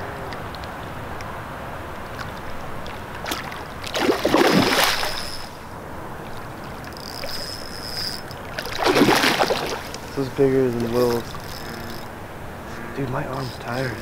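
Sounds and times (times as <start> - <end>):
water lapping: 0.0 - 14.0
fish splashing: 0.4 - 14.0.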